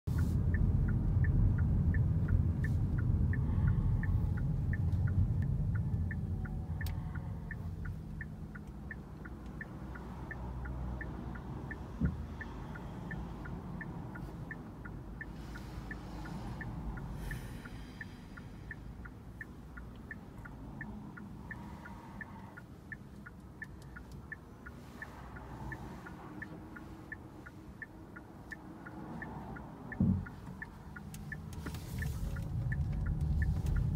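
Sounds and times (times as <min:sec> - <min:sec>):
road and engine rumble: 0:00.0 - 0:33.9
turn signal ticking: 0:00.1 - 0:33.9.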